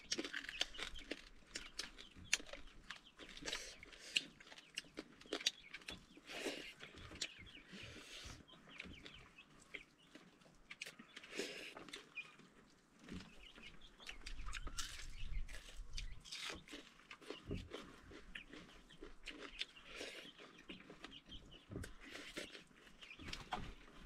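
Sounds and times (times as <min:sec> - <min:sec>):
wet chewing and smacking: 0:00.0 - 0:24.0.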